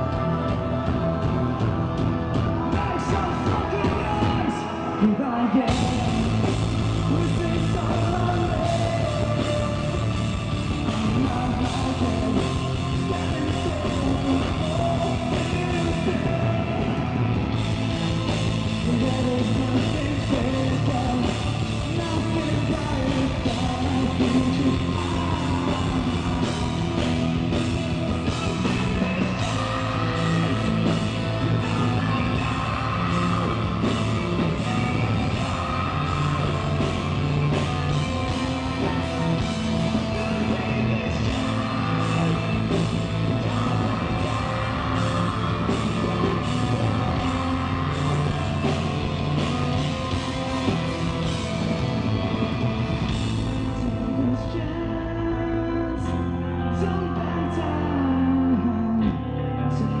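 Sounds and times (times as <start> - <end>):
heavy metal band playing live: 0.0 - 60.0
person singing: 0.0 - 60.0.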